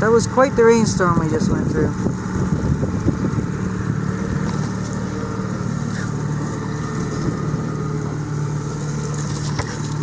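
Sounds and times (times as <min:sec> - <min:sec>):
boat motor droning: 0:00.0 - 0:10.0
faint motor whine: 0:00.0 - 0:10.0.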